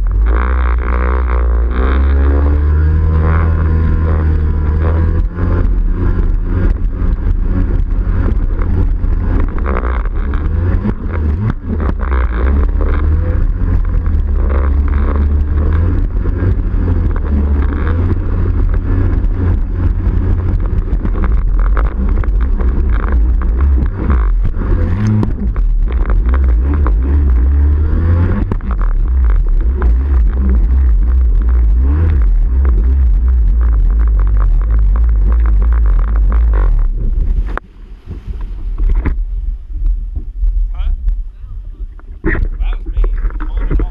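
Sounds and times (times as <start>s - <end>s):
watercraft two-stroke engine running: 0.0s - 39.4s.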